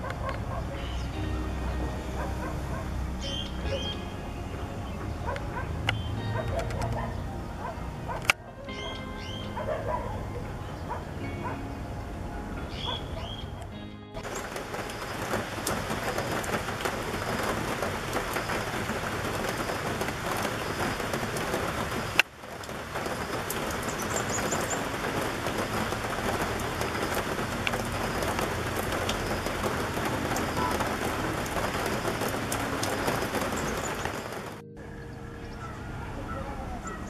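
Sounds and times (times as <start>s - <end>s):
steady rain falling: 0.0s - 34.6s.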